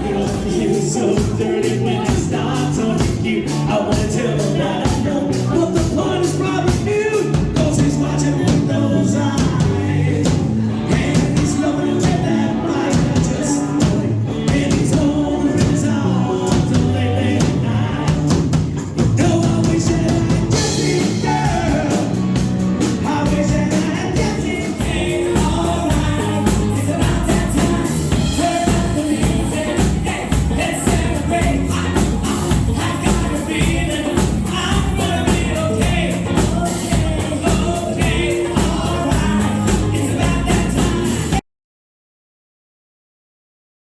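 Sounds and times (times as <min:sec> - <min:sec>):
live band playing: 0:00.0 - 0:41.4
person singing: 0:00.0 - 0:41.4.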